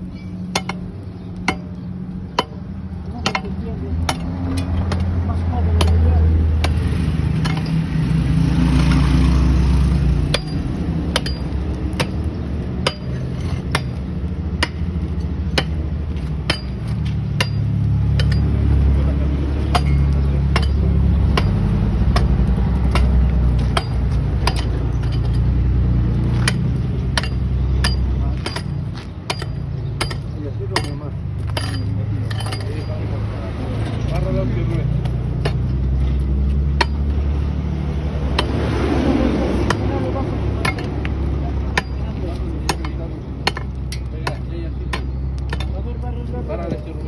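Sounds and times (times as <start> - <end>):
engine low rumble: 0.0 - 47.0
sharp metallic knocks: 0.2 - 8.1, 10.2 - 18.9, 19.6 - 25.6, 26.3 - 33.2, 35.0 - 37.4, 38.2 - 38.9, 39.6 - 46.1.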